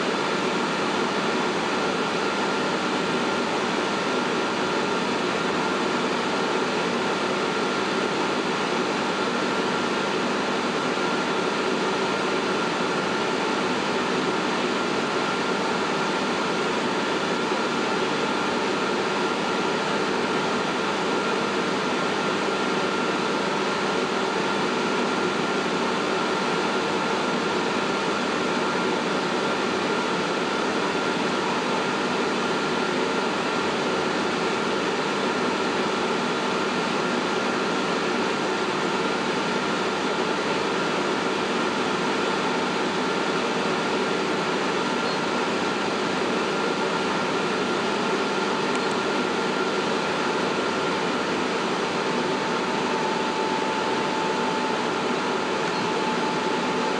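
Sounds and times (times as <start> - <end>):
exhaust fan whirring: 0.0 - 56.9.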